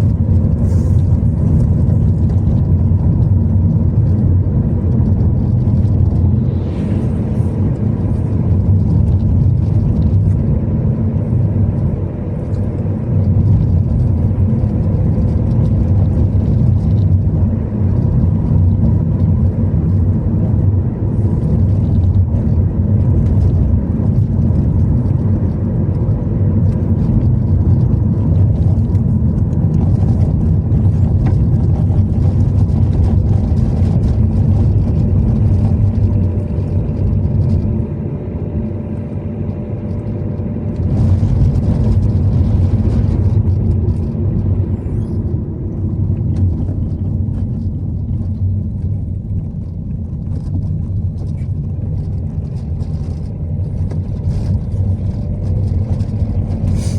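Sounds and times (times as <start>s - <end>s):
car driving rumble: 0.0s - 56.9s.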